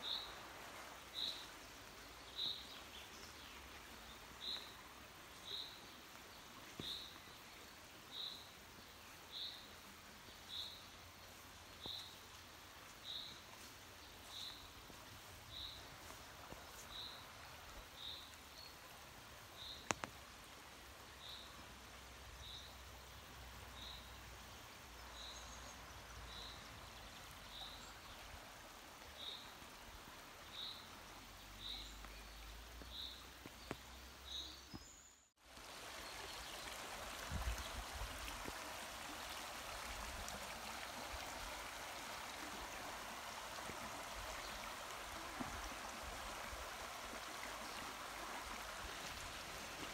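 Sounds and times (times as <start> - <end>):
stream running over rocks: 0.0 - 49.9.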